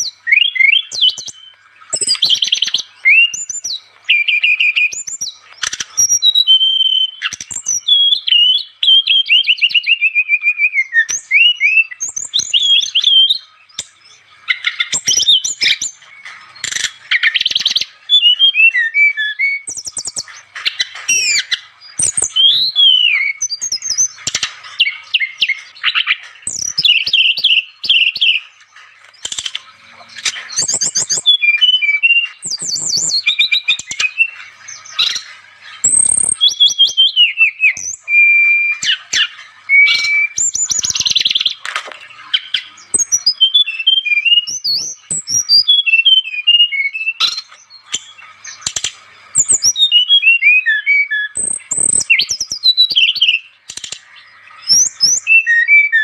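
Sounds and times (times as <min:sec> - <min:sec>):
bird singing whistled trills: 0:00.0 - 0:56.0.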